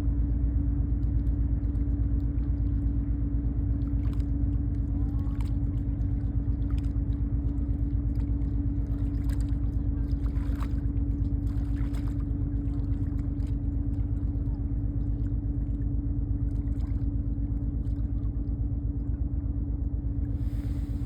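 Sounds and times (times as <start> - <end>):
ship engine droning: 0.0 - 21.0.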